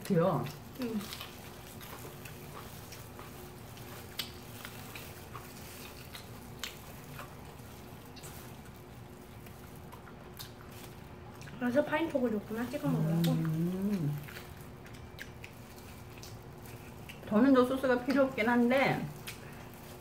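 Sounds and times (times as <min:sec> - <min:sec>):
wet chewing smacks and clicks: 0:00.0 - 0:11.6, 0:12.9 - 0:17.4, 0:19.1 - 0:20.0
low steady hum: 0:00.0 - 0:20.0.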